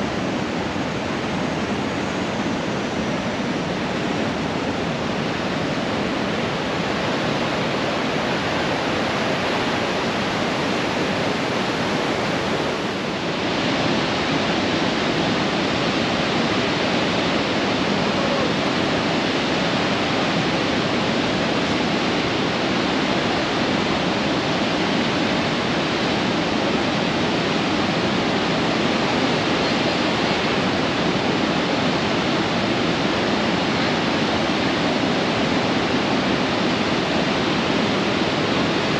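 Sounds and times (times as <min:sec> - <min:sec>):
waterfall roaring: 0:00.0 - 0:38.9
whitewater rapids rushing: 0:00.0 - 0:38.9.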